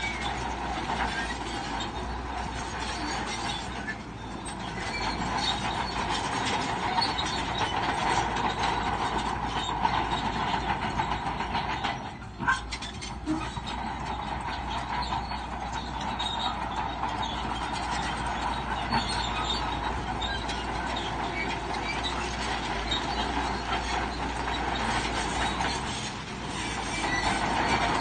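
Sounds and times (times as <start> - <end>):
diesel engine under load: 0.0 - 28.0
steel tracks squealing and clanking: 0.0 - 28.0.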